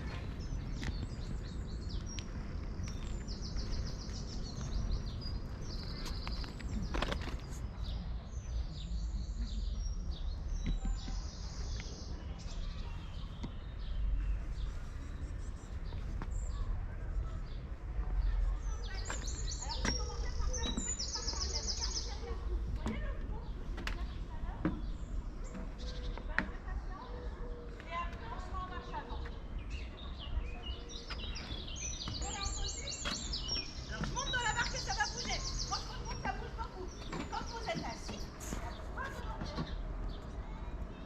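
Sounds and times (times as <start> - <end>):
songbirds singing and trilling: 0.0 - 41.0.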